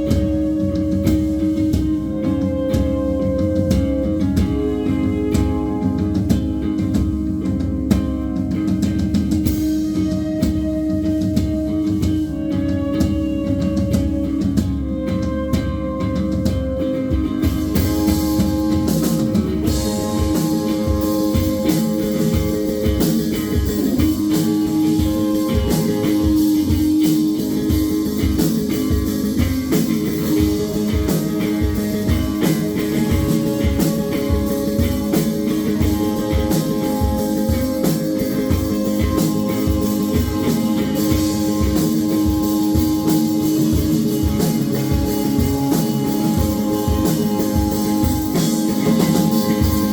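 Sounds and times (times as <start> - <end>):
cymbals: 0.0 - 49.9
rock band playing: 0.0 - 49.9.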